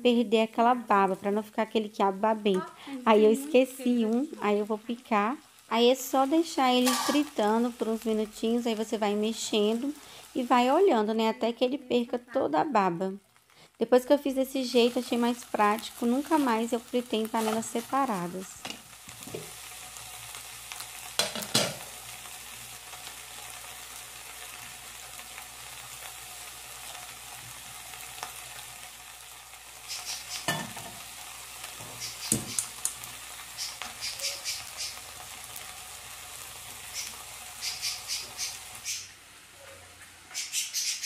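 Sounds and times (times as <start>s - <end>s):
food sizzling in fat: 0.0s - 41.0s.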